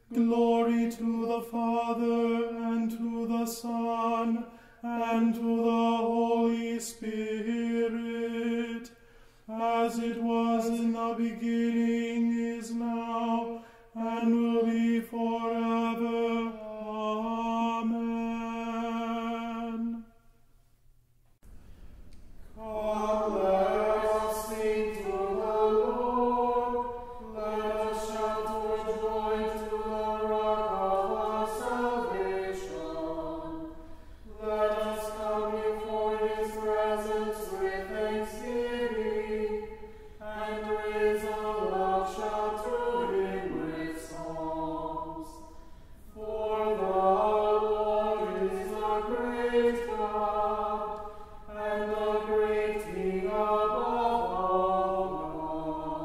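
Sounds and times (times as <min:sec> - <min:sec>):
sung liturgical chant: 0:00.0 - 0:20.4, 0:22.4 - 0:56.0.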